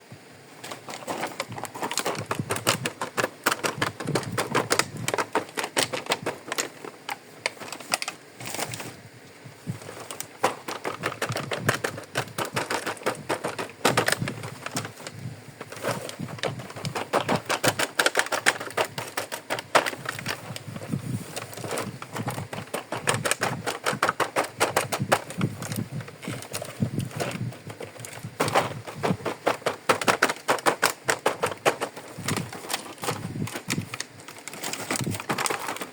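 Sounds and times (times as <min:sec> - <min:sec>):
plastic toy pieces clicking: 0:00.6 - 0:08.2, 0:09.8 - 0:20.6, 0:21.4 - 0:35.9.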